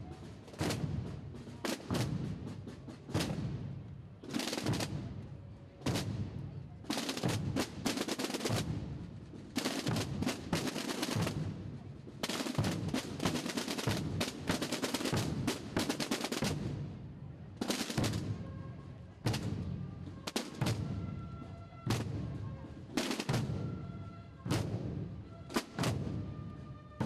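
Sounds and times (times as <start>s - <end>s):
deep drum beats: 0.0s - 5.0s, 5.8s - 17.0s, 19.2s - 26.5s
snare drum rolls: 0.0s - 27.0s.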